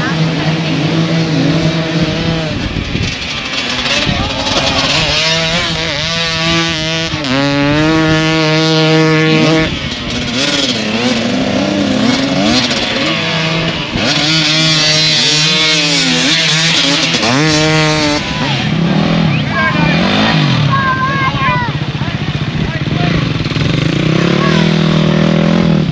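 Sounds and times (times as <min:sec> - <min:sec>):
motorcycle engines revving: 0:00.0 - 0:25.9.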